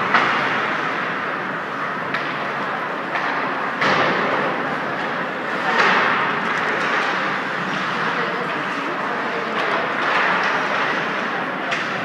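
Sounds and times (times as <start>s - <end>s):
arena noise: 0.0s - 12.0s.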